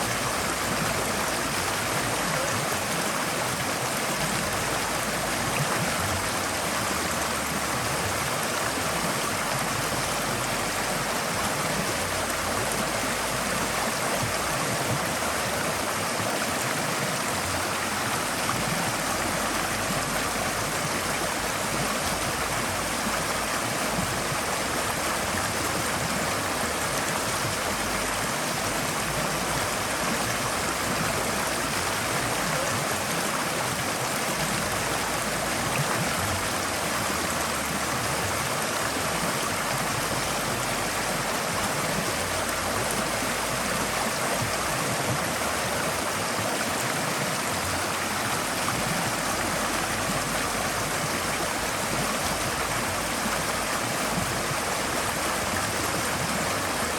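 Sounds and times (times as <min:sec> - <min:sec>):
stream water rushing over rocks: 0:00.0 - 0:56.9.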